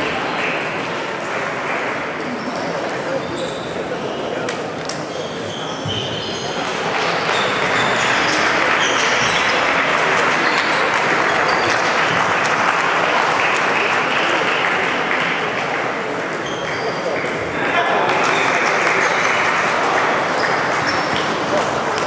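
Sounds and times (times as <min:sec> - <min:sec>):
applause in large hall: 0:00.0 - 0:03.0, 0:06.5 - 0:22.0.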